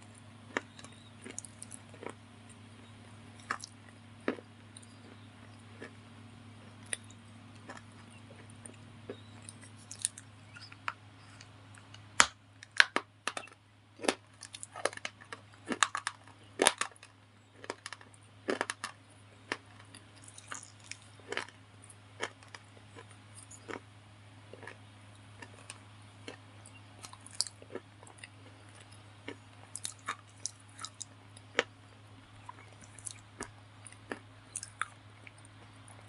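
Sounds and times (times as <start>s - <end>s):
crunching and chewing candy: 0.0s - 36.0s
low steady hum: 0.0s - 36.0s.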